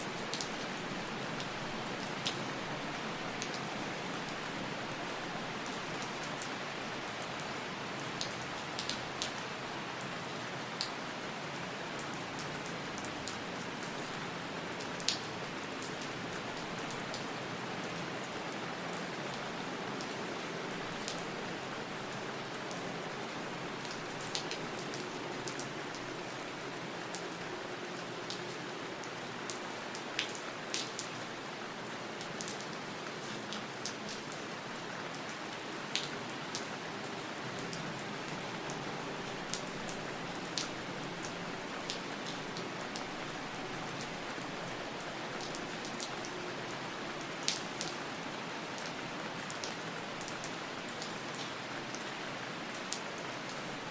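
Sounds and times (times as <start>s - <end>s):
raindrops ticking on a surface: 0.1s - 53.9s.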